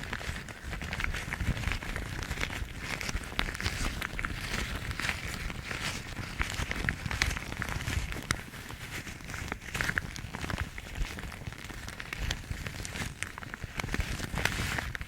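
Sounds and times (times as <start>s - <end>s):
rubber gloves rubbed crackling: 0.0s - 15.0s.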